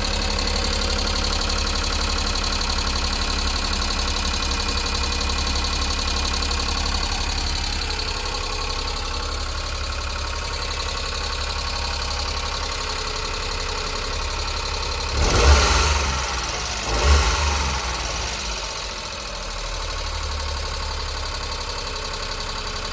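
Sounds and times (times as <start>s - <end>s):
truck engine idling and revving: 0.0s - 22.9s.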